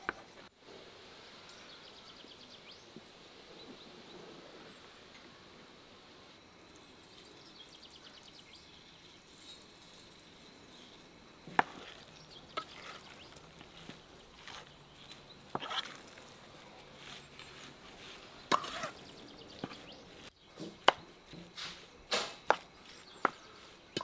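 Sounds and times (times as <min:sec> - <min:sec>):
faint outdoor background: 0:00.0 - 0:24.0.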